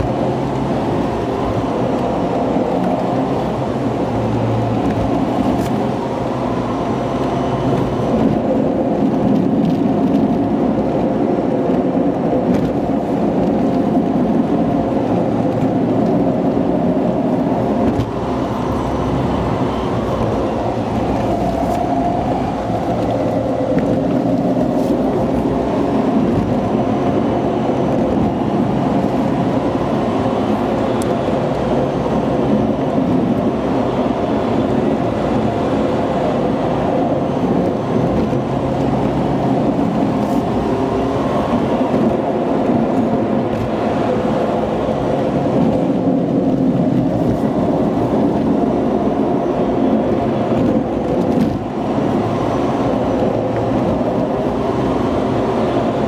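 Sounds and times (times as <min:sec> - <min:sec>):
car engine hum: 0:00.0 - 0:56.0
tyre and road noise: 0:00.0 - 0:56.0.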